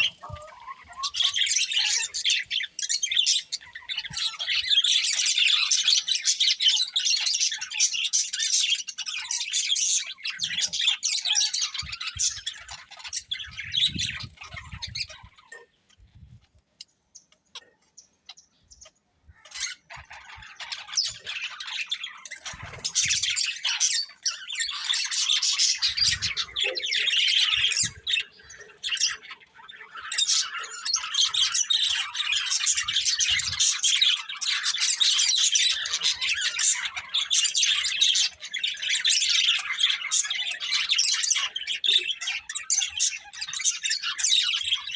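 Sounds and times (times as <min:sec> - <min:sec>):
budgerigars chattering and chirping: 0:00.0 - 0:44.9.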